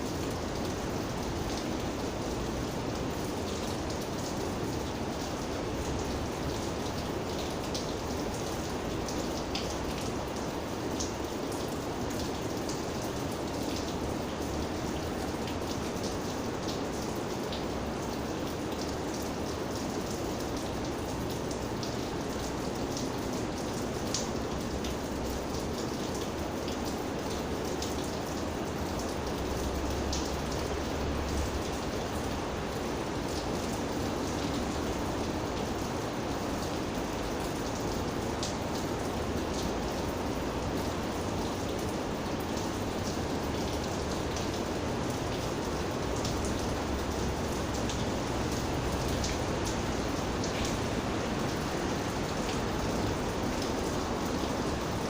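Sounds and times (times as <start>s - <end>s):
rain drops ticking on a surface: 0.0s - 55.0s.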